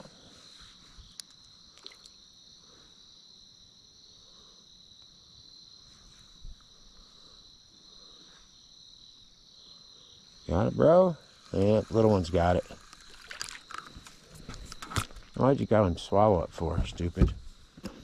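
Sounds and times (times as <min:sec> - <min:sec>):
insect chorus trilling: 0:00.0 - 0:18.0.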